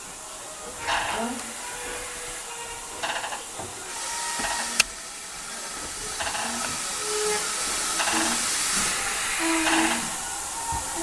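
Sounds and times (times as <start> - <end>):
steam train running: 0.0 - 11.0
train wheels clattering: 0.8 - 11.0.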